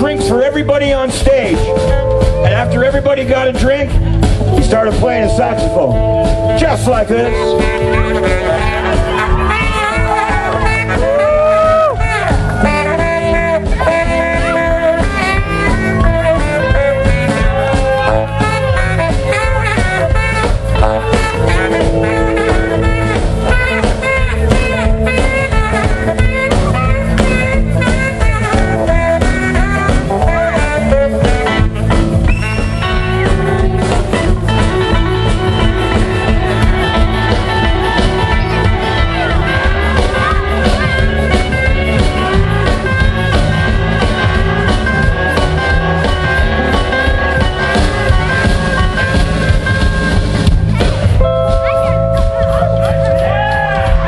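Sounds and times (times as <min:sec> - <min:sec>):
live blues rock band: 0:00.0 - 0:54.0.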